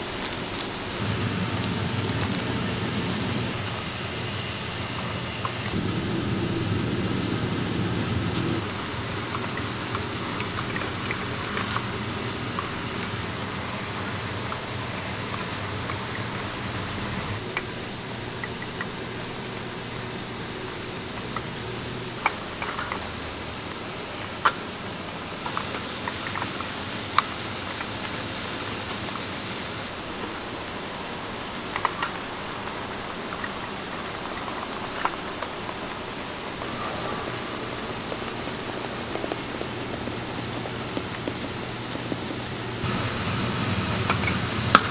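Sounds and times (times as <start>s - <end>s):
gas burner hiss: 0.0s - 44.9s.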